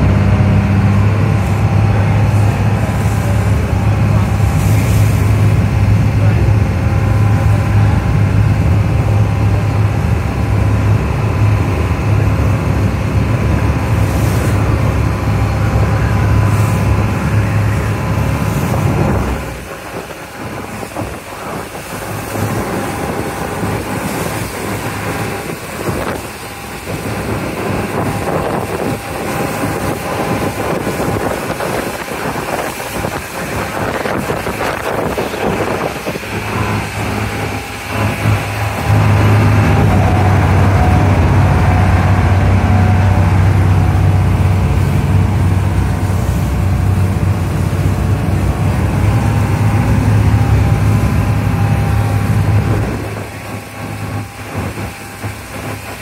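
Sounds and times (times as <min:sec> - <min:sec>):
boat engine humming: 0:00.0 - 0:56.0
water splashing along hull: 0:00.0 - 0:56.0
wind on microphone: 0:00.0 - 0:56.0.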